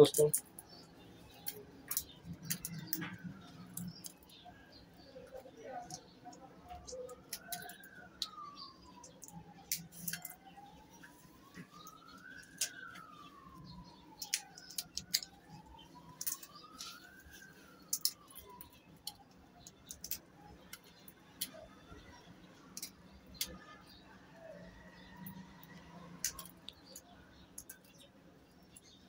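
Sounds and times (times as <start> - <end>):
dry pods cracking: 0.0 - 29.0
faint siren wailing: 0.0 - 29.0.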